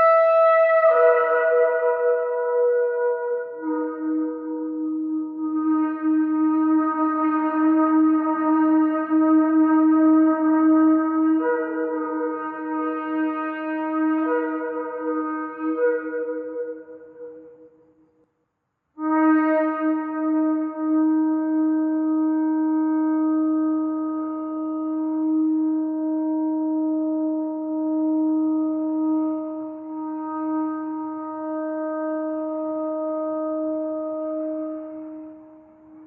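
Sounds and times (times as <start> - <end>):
shofar long blast: 0.0 - 17.5, 19.0 - 36.0.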